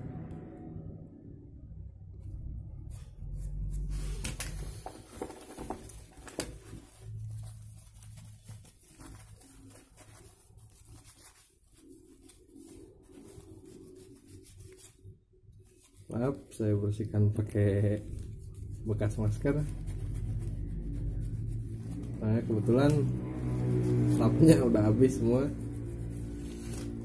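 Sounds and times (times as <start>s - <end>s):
face mask rustling on phone: 3.2s - 27.0s.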